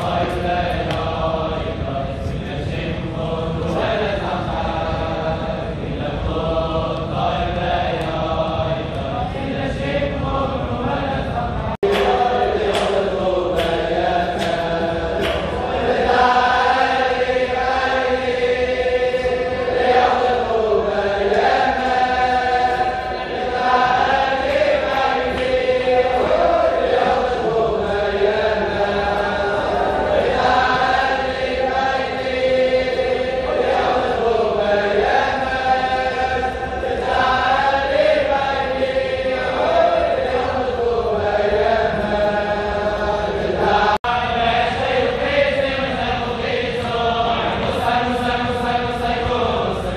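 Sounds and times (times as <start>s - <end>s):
men singing in unison: 0.0s - 49.9s.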